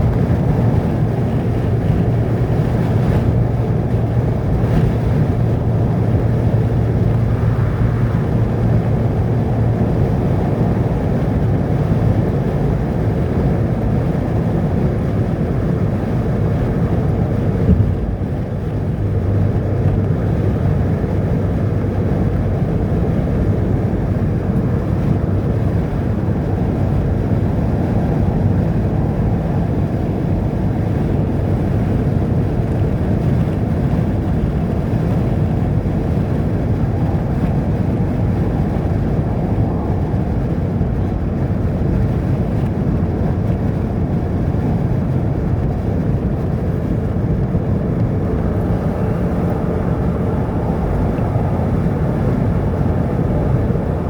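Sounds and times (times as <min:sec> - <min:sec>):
vehicle engine and road noise: 0:00.0 - 0:54.0
wind noise: 0:00.0 - 0:54.0.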